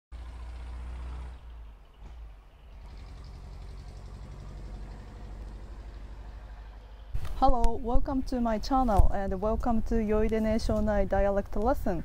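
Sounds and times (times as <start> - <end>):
low steady rumble: 0.2 - 12.0.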